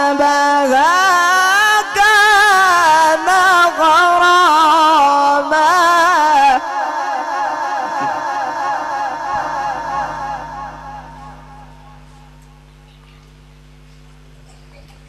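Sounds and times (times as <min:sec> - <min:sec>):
man reciting melodically over speakers: 0:00.0 - 0:13.2.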